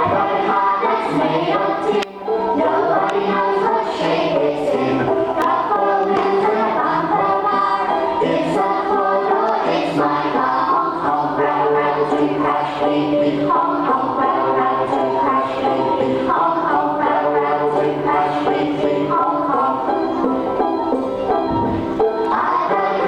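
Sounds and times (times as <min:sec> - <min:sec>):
children singing in unison: 0:00.0 - 0:23.0
music playing: 0:00.0 - 0:23.0.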